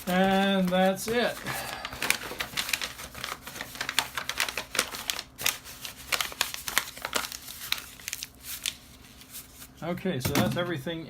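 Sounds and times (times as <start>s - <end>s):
packaging crinkling: 0.0s - 9.7s.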